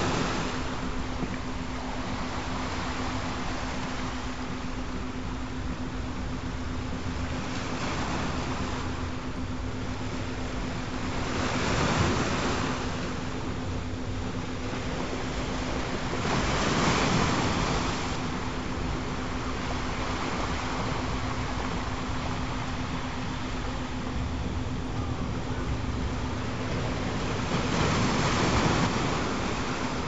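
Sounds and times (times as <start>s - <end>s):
ocean waves washing in: 0.0s - 30.0s
steady humming tone: 0.0s - 30.0s.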